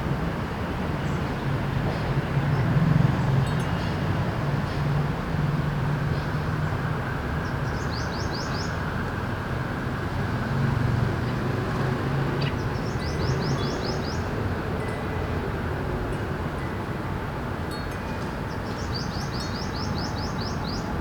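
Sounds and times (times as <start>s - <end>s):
city traffic hum: 0.0s - 21.0s.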